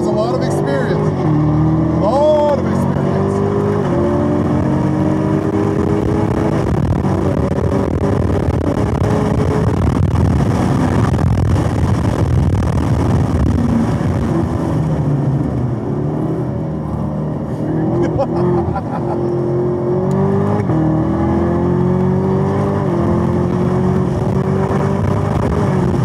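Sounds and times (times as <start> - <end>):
car engine at full throttle: 0.0 - 26.0
wind and road noise: 0.0 - 26.0.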